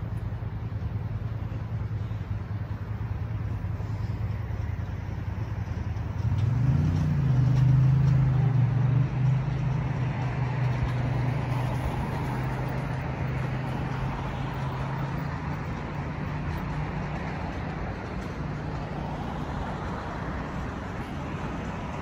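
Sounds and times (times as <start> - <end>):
cars passing: 0.0 - 22.0
vehicle engine humming: 0.0 - 22.0.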